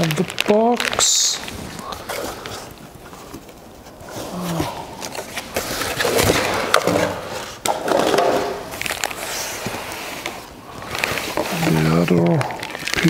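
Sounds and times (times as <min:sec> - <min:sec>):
plastic wrap rustling: 0:00.0 - 0:13.0
cardboard scraping and rustling: 0:01.5 - 0:13.0.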